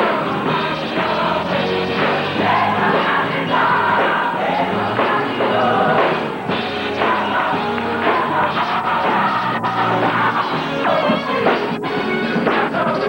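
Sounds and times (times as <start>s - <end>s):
choir singing gospel music: 0.0s - 13.0s
instrumental backing: 0.0s - 13.0s.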